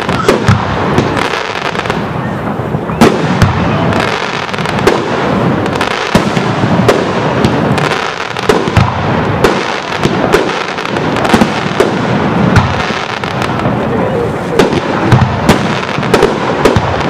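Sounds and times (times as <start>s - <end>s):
firework bangs: 0.0s - 17.0s
firework crackle: 0.0s - 17.0s.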